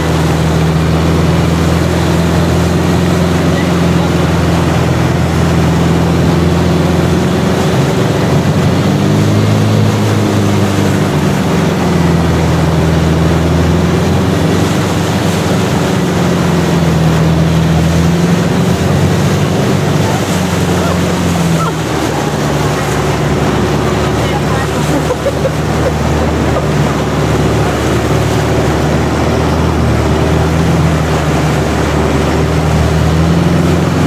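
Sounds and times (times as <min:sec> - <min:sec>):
boat engine running loud: 0:00.0 - 0:34.0
rushing water: 0:00.0 - 0:34.0
wind: 0:00.0 - 0:34.0.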